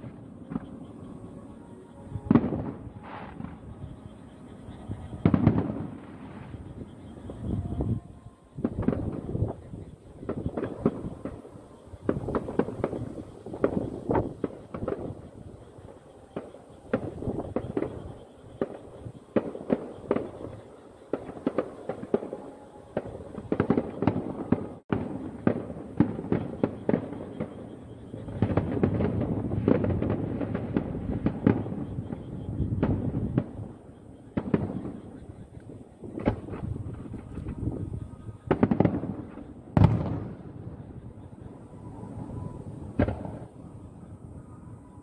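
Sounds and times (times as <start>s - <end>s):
fireworks bursting and crackling: 0.0s - 44.8s.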